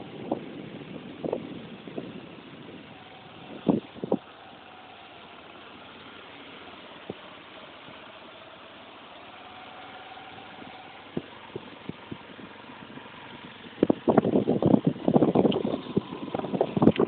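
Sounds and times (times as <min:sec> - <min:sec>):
road noise: 0:00.0 - 0:17.0
vehicle engine running: 0:00.0 - 0:17.0.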